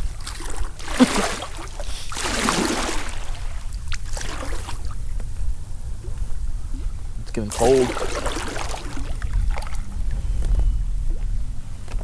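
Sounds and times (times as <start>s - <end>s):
water swishing around kayak: 0.0s - 12.0s
wind rumble on microphone: 0.0s - 12.0s.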